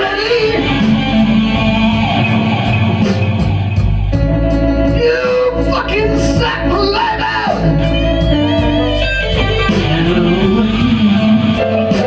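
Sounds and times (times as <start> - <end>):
blues-rock band playing: 0.0 - 12.0
electric guitar: 0.0 - 12.0
steady drum beat: 0.0 - 12.0.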